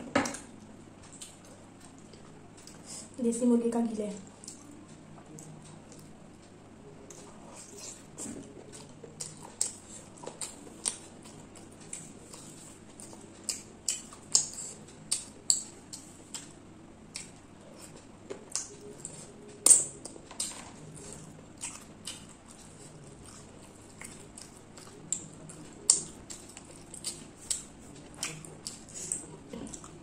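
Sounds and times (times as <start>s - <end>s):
person chewing food: 0.3s - 3.0s, 4.2s - 30.0s.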